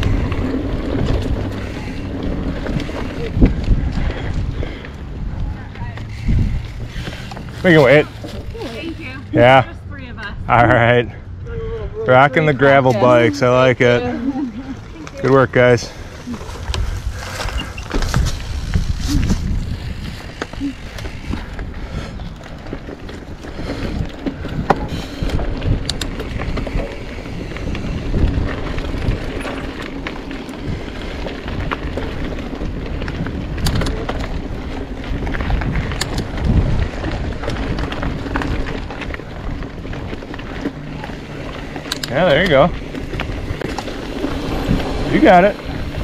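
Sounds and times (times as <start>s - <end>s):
wind on microphone: 0.0s - 9.3s, 16.0s - 41.8s, 42.6s - 46.0s
bike clicking and rattling: 0.0s - 11.1s, 11.8s - 46.0s
tyres rumbling on dirt: 0.0s - 11.2s, 11.9s - 46.0s.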